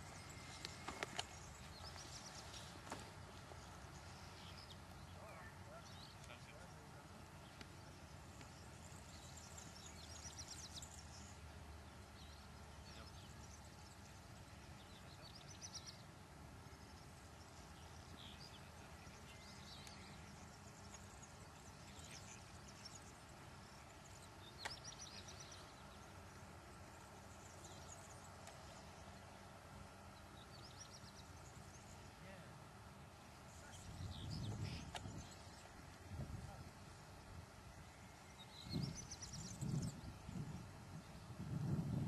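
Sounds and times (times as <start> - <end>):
distant bird calls: 0.0 - 41.4.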